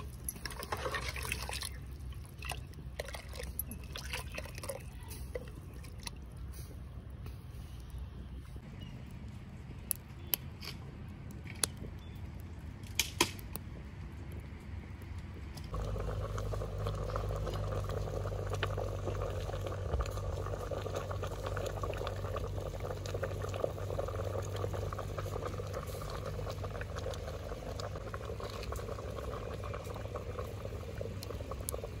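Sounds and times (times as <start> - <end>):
pot boiling with bubbling pops: 0.0 - 8.4, 9.7 - 32.0.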